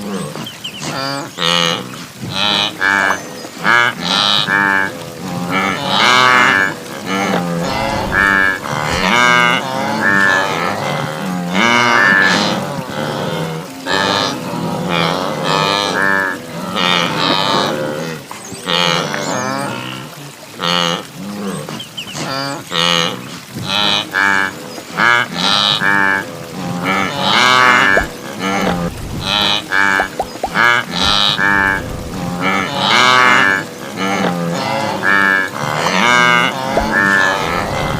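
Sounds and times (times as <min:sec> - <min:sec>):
wildebeest herd calling: 0:02.4 - 0:19.5, 0:23.7 - 0:37.9.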